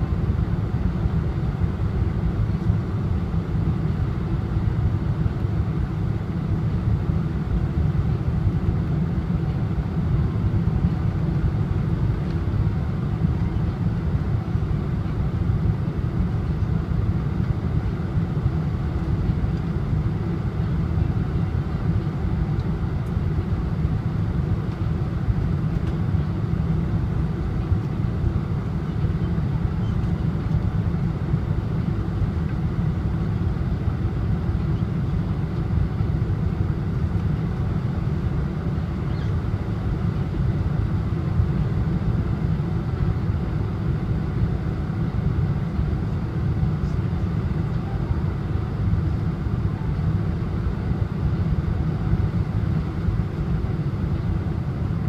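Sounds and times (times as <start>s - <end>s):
airplane cabin engine noise: 0.0s - 55.0s.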